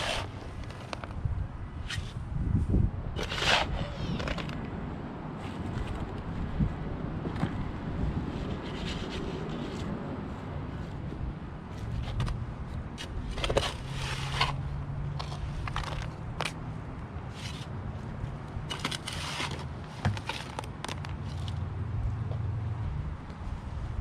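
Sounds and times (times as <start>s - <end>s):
scraping and crunching noises: 0.0s - 1.2s, 1.8s - 21.7s.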